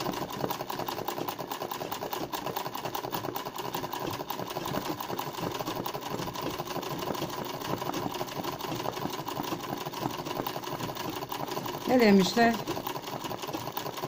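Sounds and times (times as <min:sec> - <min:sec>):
sewing machine running: 0:00.0 - 0:14.0.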